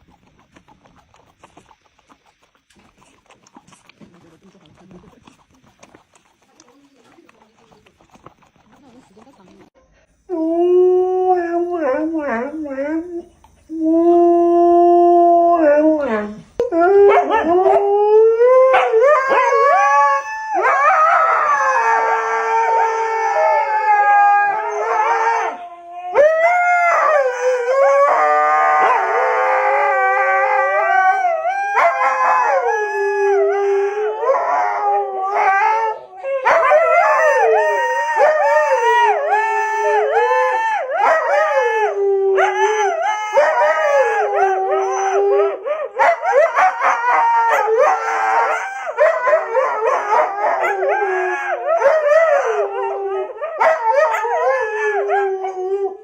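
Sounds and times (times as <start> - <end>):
dog howling: 10.3 - 56.0.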